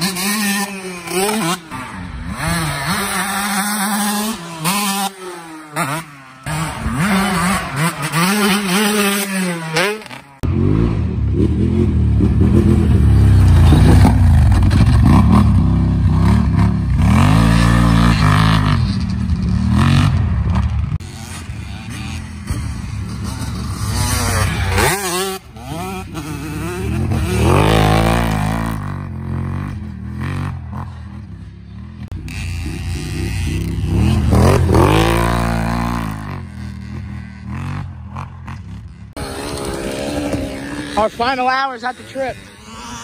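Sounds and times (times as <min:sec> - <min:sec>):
deep atv engine revving: 0:00.0 - 0:43.0
dirt bike engine revving: 0:00.0 - 0:43.0.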